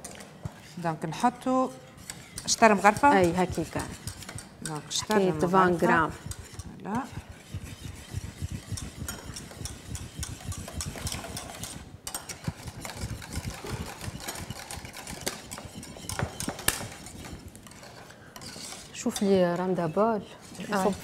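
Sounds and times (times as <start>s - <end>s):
whisk scraping metal pan: 0.0s - 21.0s.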